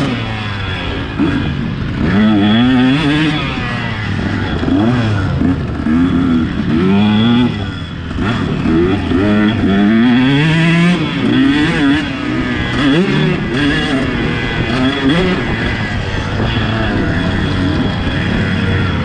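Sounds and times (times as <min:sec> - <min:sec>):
motocross engine revving: 0:00.0 - 0:19.0.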